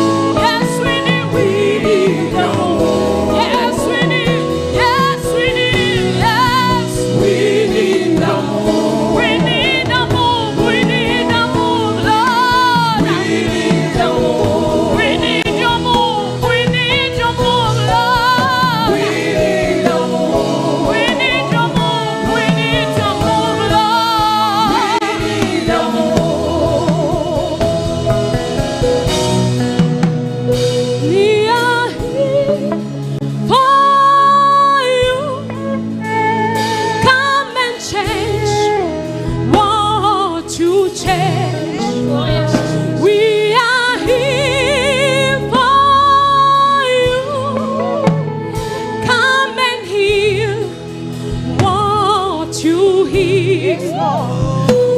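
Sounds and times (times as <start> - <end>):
gospel worship singing: 0.0 - 54.9
instrumental backing: 0.0 - 54.9.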